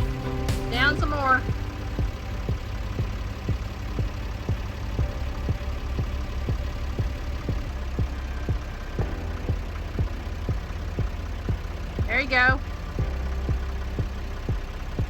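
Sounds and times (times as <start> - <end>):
machine engine idling: 0.0 - 15.0.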